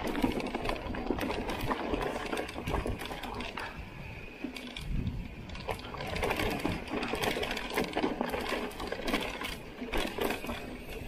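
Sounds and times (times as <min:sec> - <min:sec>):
bike rattling on stones: 0:00.0 - 0:11.0
tyre rolling rush: 0:00.0 - 0:11.0.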